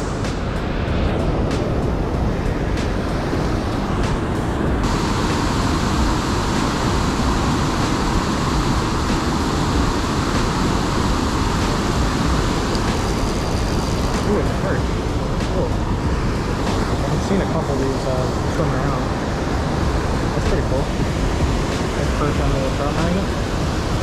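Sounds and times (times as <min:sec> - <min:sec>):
bright hiss: 0:00.0 - 0:24.0
water roaring through a dam: 0:00.0 - 0:24.0.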